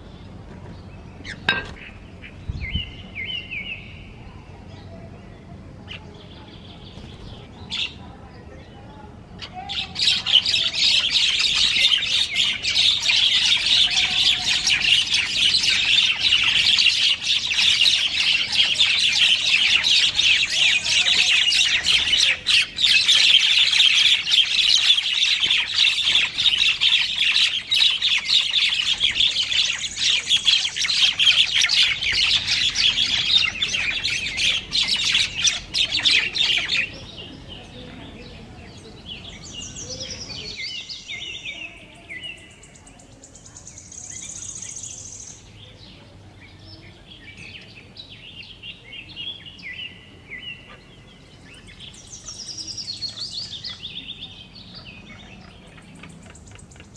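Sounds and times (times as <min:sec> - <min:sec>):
flock of birds chattering and squawking: 0:00.0 - 0:56.9.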